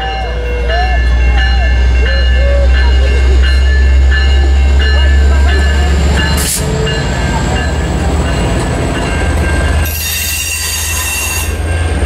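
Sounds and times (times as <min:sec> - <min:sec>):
locomotive engine rumble: 0:00.0 - 0:12.0
steady high tones: 0:00.0 - 0:12.0
train wheels roaring on rails: 0:00.0 - 0:12.0.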